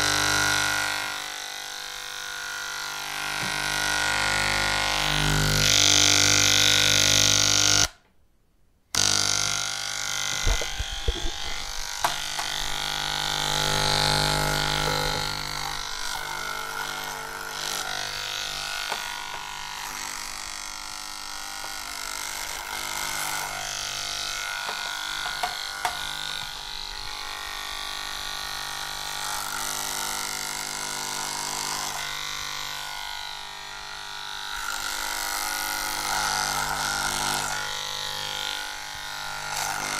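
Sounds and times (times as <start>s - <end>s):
electric hair clippers buzzing: 0.0s - 8.0s, 8.9s - 39.9s.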